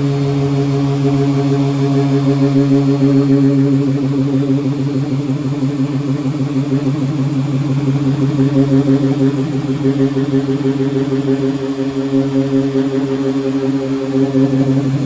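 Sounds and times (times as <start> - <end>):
electric power sander running: 0.0 - 15.0.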